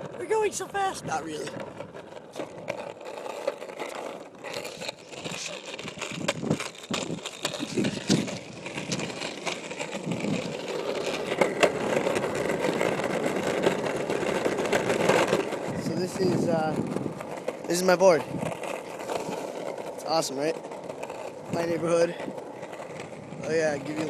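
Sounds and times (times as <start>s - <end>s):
skateboard wheels rumbling on road: 0.0s - 24.0s
wheels clicking over cracks: 0.0s - 24.0s.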